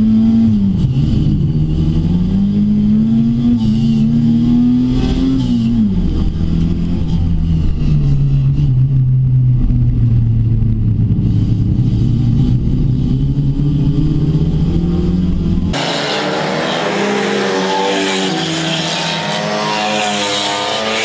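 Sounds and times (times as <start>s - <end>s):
race car engine drone in cabin: 0.0s - 21.0s
race car engines revving: 0.0s - 21.0s.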